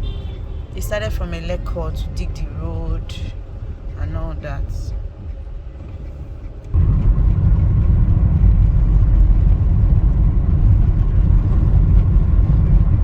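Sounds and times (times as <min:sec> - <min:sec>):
car road noise: 0:00.0 - 0:13.0.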